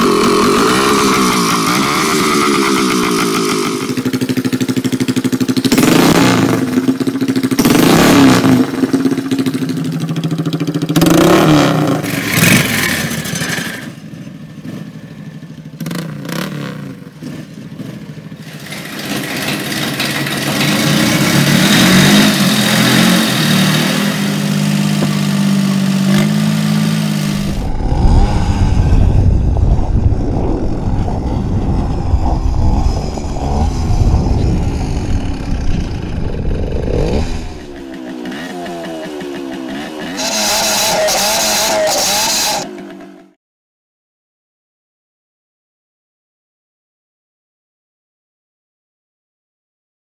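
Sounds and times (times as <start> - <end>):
engines revving: 0.0 - 15.0, 15.8 - 43.3
loud deep engine sound: 0.0 - 43.4.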